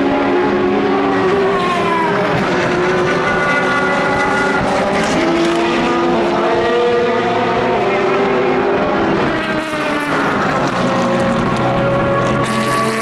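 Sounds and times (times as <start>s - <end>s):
race car engines at high revs: 0.0s - 13.0s.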